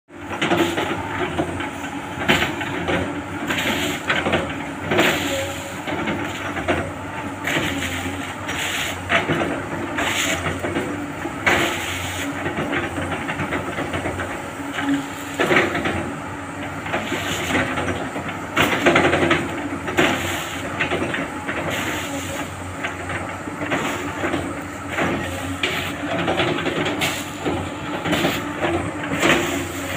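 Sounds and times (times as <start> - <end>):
excavator diesel engine under load: 0.1 - 29.9.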